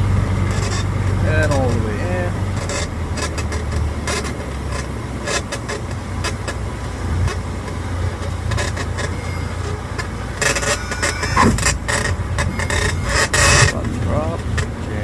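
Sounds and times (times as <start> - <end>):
airplane engine humming: 0.0 - 15.0.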